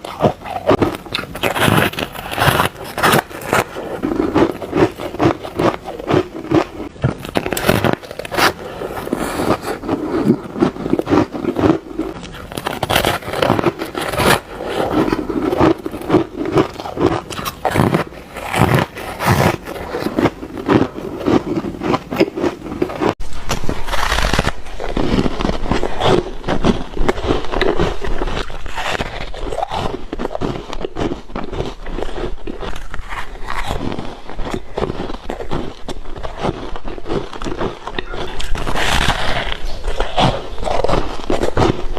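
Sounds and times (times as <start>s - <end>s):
ice being bitten and crunched: 0.0s - 41.9s.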